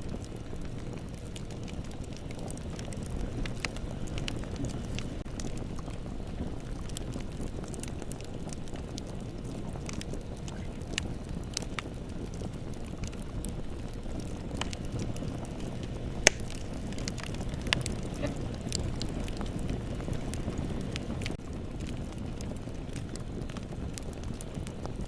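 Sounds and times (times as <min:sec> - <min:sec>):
burning wood crackling and popping: 0:00.0 - 0:25.0
rumble of flames: 0:00.0 - 0:25.0.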